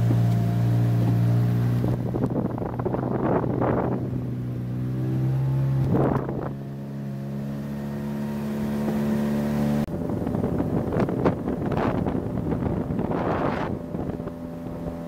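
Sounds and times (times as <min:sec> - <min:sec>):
wind on microphone: 0:00.0 - 0:04.7, 0:05.6 - 0:06.6, 0:08.6 - 0:15.0
outboard motor droning: 0:00.0 - 0:15.0.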